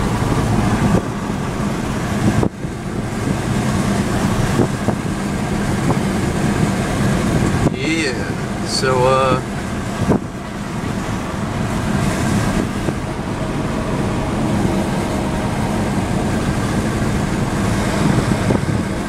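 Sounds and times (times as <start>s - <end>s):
road noise: 0.0s - 19.0s
truck engine: 0.0s - 19.0s.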